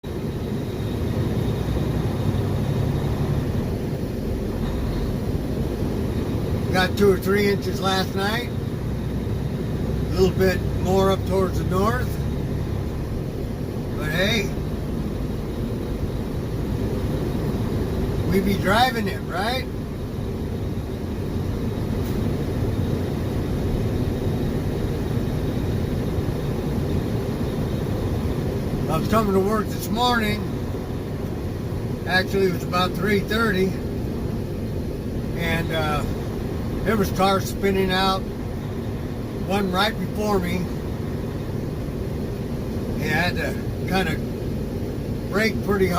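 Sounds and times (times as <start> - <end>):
truck diesel engine rumbling: 0.0 - 45.9.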